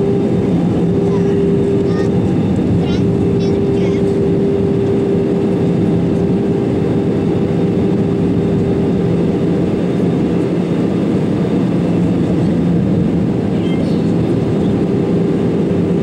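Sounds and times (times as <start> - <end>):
jet engine cabin noise: 0.0 - 16.0.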